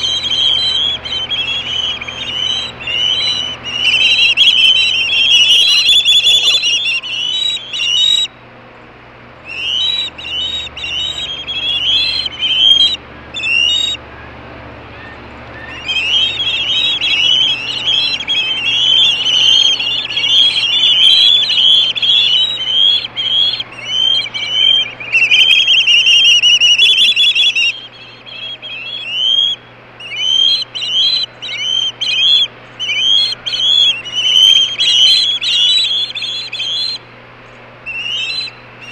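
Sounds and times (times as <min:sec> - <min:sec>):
young ospreys screaming: 0:00.0 - 0:08.4, 0:09.4 - 0:38.9.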